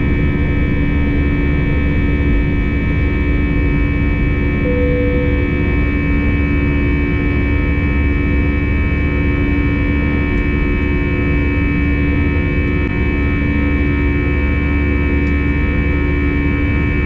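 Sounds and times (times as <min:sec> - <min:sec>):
jet engines rumbling in cabin: 0:00.0 - 0:17.0
steady humming tones: 0:00.0 - 0:17.0.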